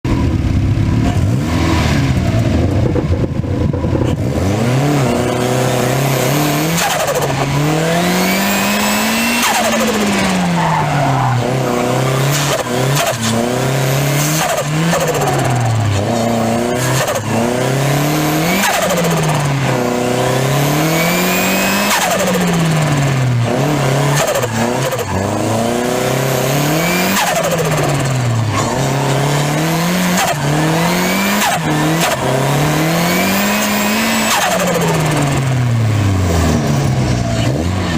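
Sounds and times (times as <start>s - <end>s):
car engine revving: 0.1s - 37.9s.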